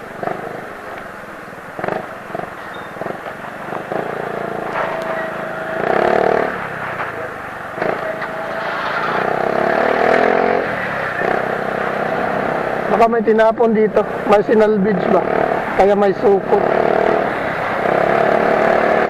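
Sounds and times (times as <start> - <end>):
motorcycle and vehicles passing: 0.0 - 19.0
road noise: 0.0 - 19.0.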